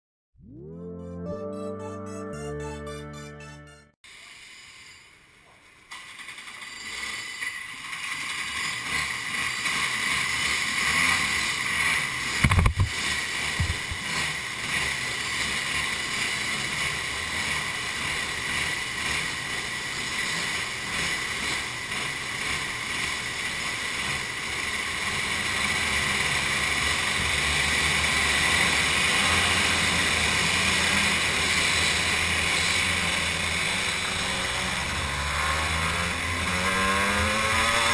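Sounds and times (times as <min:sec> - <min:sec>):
kart engines running: 0:05.9 - 0:37.9.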